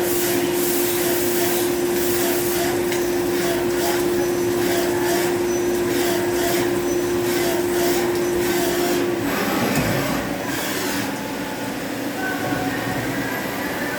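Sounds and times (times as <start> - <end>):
machine hum: 0.0 - 13.8.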